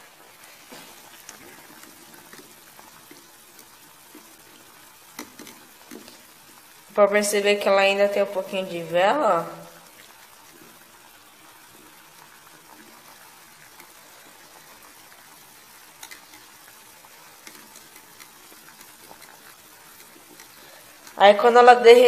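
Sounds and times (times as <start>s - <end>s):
hot-water bath hissing faintly: 0.0s - 22.0s.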